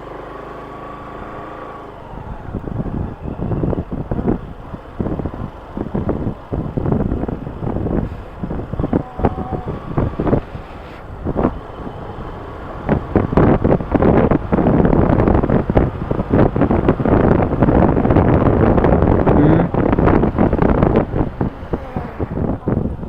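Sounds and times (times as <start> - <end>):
motorcycle engine: 0.0 - 23.0
road noise: 0.0 - 23.0
wind buffeting microphone: 1.2 - 23.0.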